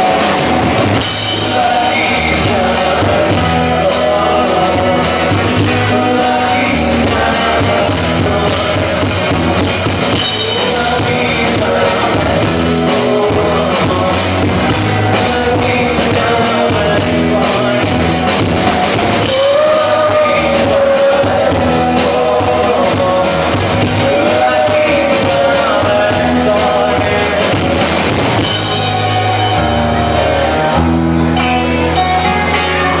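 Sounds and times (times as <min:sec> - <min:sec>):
drum kit: 0:00.0 - 0:33.0
electric guitar: 0:00.0 - 0:33.0
strummed acoustic guitars: 0:00.0 - 0:33.0
man singing long held notes: 0:01.0 - 0:30.9.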